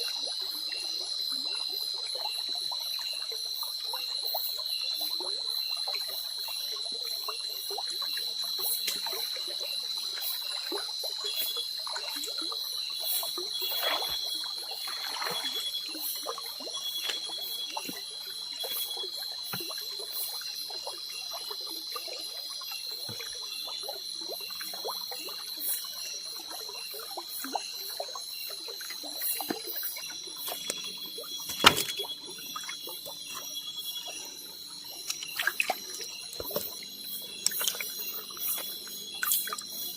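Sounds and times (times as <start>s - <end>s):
night insects chorus: 0.0s - 39.9s
water trickling and splashing: 0.0s - 39.9s.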